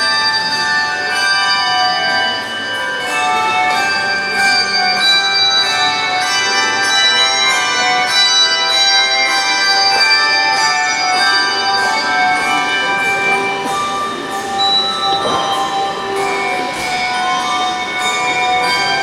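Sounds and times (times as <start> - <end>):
handbell choir playing: 0.0 - 19.0.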